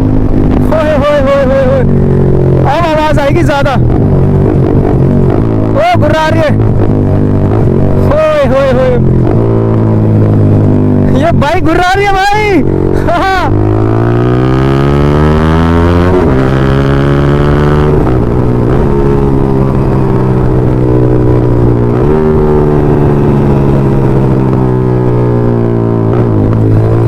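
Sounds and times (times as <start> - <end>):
motorcycle engine growling: 0.0 - 27.0.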